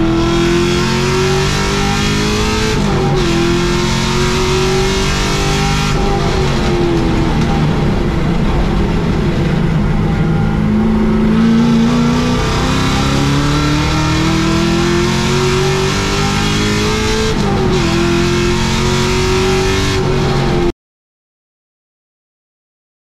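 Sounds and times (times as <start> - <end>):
race car engine accelerating: 0.0 - 20.7.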